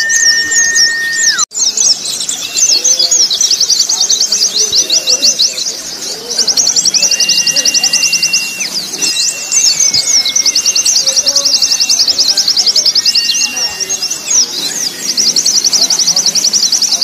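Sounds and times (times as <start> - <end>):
birds singing fast trills: 0.0 - 17.0
long whistled bird notes: 0.0 - 17.0.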